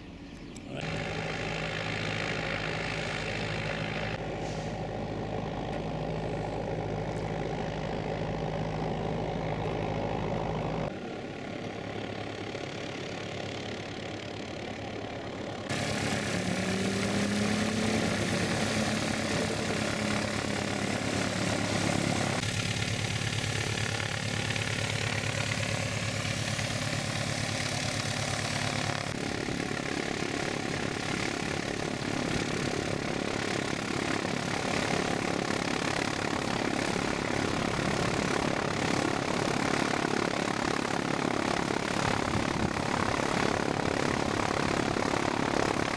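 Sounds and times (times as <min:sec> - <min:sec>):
propeller engine running: 0:00.0 - 0:45.9.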